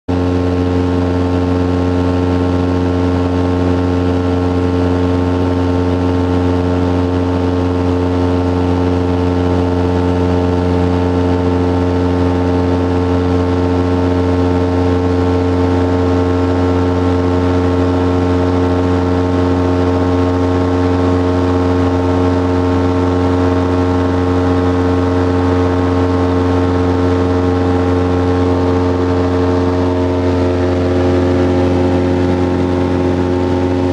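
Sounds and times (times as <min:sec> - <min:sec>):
light aircraft engine droning: 0:00.1 - 0:33.9.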